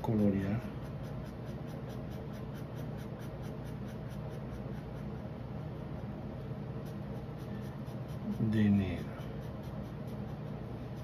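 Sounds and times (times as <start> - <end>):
marker scratching on paper: 0.0 - 11.0
steady low hum: 0.0 - 11.0.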